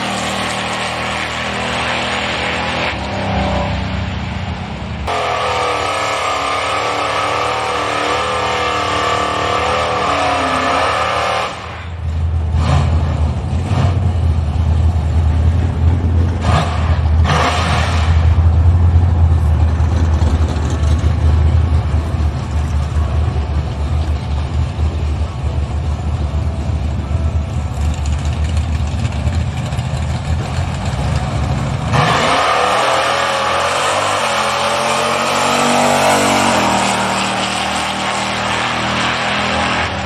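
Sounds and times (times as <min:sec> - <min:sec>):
loud low engine rumble: 0:00.0 - 0:40.0.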